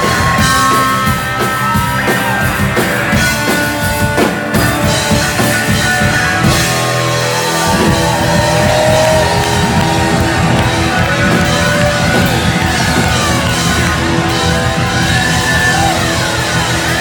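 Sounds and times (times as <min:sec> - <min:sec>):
electric guitar lead bending notes: 0:00.0 - 0:17.0
live rock band playing: 0:00.0 - 0:17.0.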